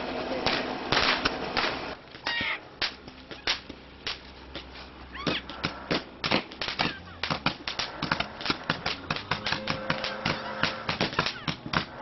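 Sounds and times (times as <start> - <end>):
firework fountain hissing and crackling: 0.0 - 12.0
firework pops and cracks: 0.4 - 12.0.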